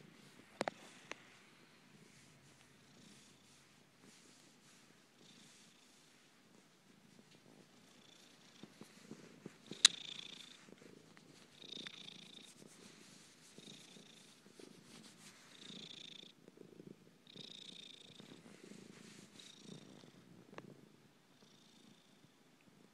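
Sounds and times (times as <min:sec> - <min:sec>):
cat purring: 0:00.0 - 0:22.9.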